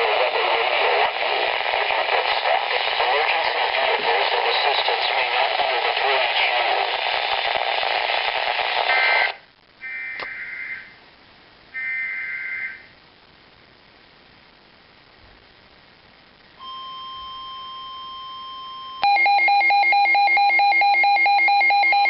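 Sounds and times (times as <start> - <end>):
radio static hiss: 0.0 - 19.2.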